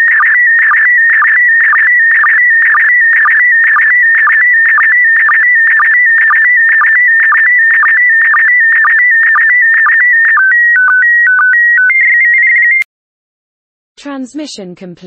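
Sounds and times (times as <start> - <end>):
warbling electronic tone: 0.0 - 12.8.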